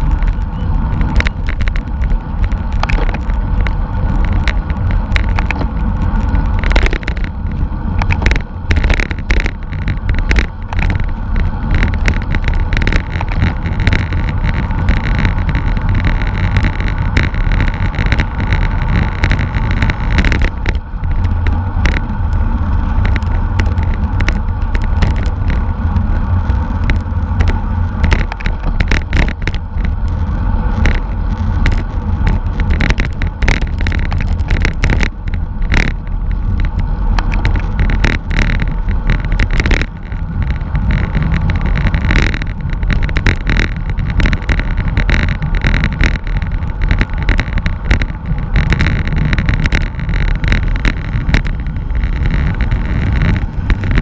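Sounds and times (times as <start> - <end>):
bicycle clicks and rattles: 0.0 - 54.0
road noise: 0.0 - 54.0
wind rumble on microphone: 0.0 - 54.0.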